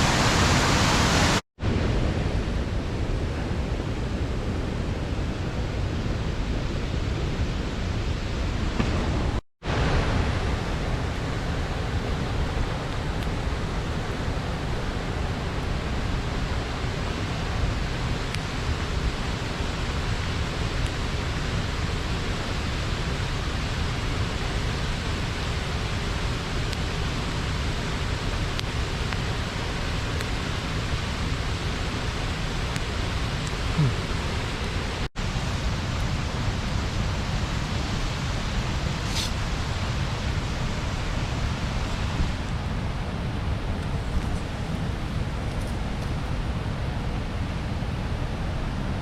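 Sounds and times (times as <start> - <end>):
water rushing over a weir: 0.0 - 6.5, 7.1 - 49.0.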